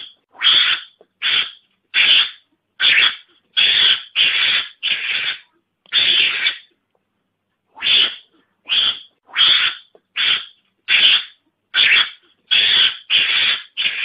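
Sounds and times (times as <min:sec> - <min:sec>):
mongoose hissing calls: 0:00.0 - 0:06.7, 0:07.8 - 0:14.0.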